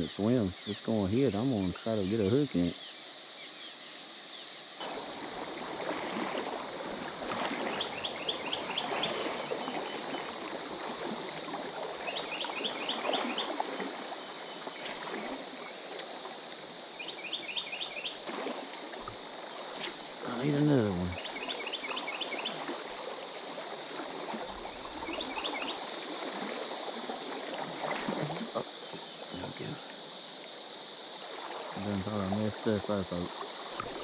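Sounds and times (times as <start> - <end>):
cicadas droning: 0.0 - 34.0
flowing river water: 0.0 - 34.0.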